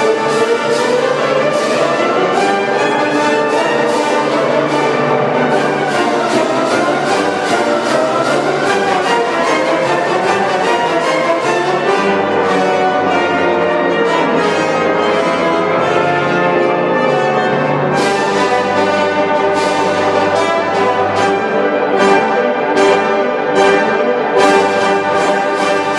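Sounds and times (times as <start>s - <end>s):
wind band playing: 0.0s - 25.9s.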